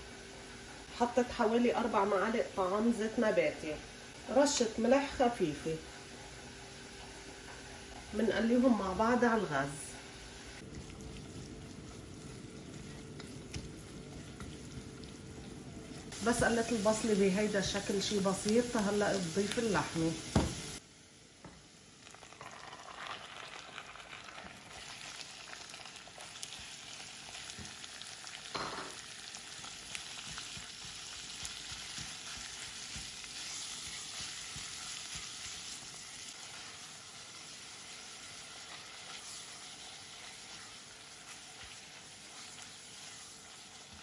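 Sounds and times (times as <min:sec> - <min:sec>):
meat sizzling in a pot: 0:00.0 - 0:44.0.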